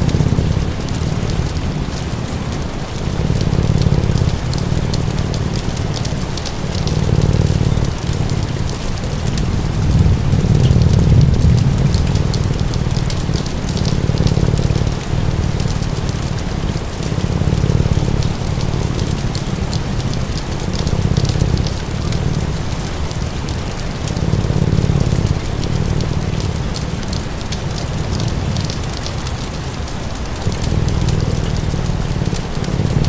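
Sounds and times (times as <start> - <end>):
low rumble: 0.0 - 29.0, 30.4 - 33.0
fire crackling: 0.0 - 33.0
steady rain: 0.0 - 33.0.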